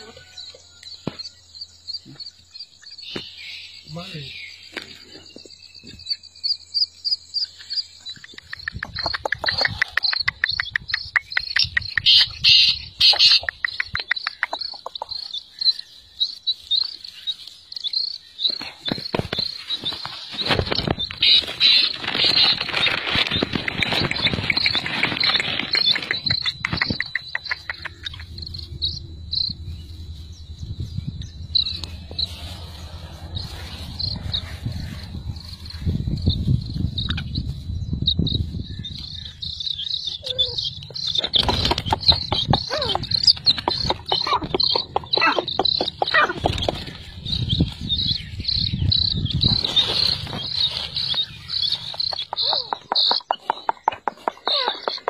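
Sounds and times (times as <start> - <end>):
chicks peeping: 4.7 - 55.0.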